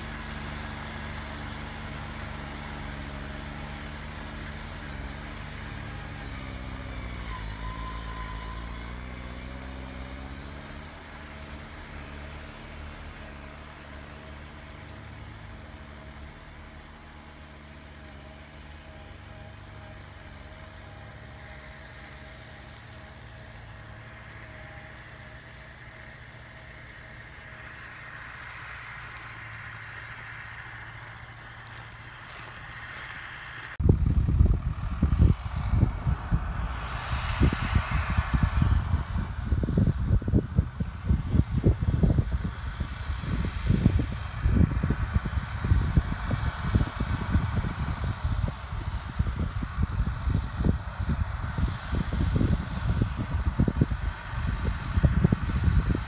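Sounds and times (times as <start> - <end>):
distant tractor engine under load: 0.0 - 56.0.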